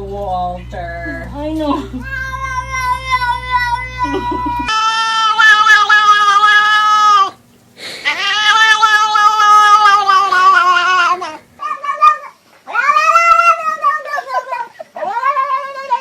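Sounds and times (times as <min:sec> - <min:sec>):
cat yowling: 0:02.0 - 0:07.4, 0:08.0 - 0:16.0.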